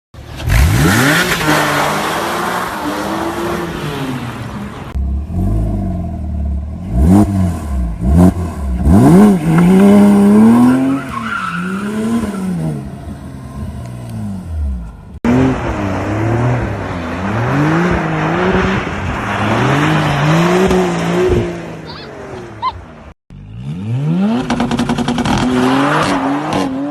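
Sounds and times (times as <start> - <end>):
sports car engines revving: 0.4 - 26.9.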